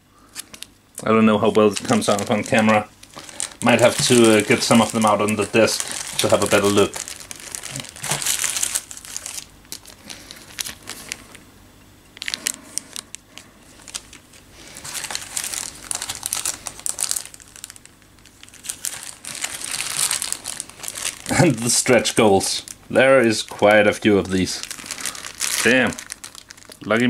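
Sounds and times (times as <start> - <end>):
plastic bags crinkling: 0.3 - 11.4, 12.2 - 27.0.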